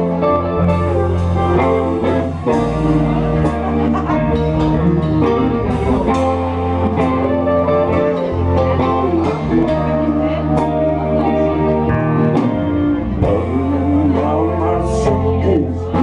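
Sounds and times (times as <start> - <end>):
bass guitar notes: 0.0 - 16.0
electric guitar lines: 0.0 - 16.0.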